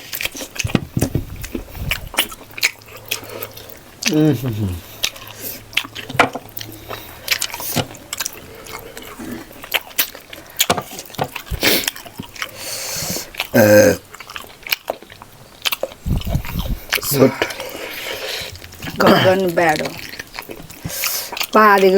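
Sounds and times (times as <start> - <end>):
person chewing food: 0.0 - 21.9.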